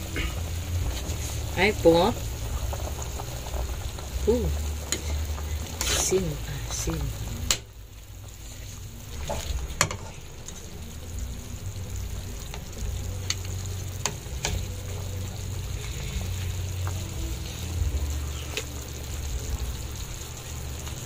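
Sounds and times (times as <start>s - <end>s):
soup bubbling in a pot: 0.0s - 21.0s.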